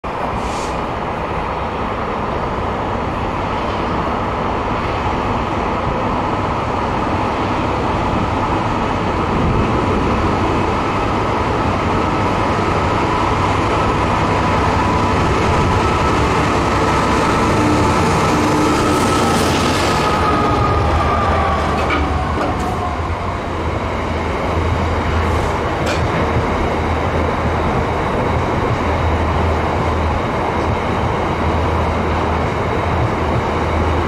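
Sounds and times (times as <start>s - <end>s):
train wheels rushing on rail: 0.0s - 34.0s.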